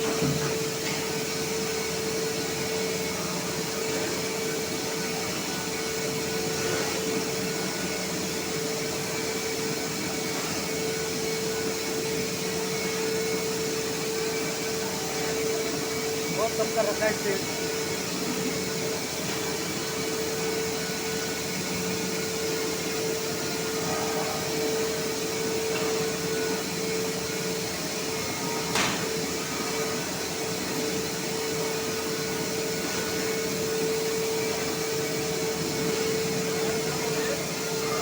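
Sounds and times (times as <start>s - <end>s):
laser cutting machine hum: 0.0s - 38.0s.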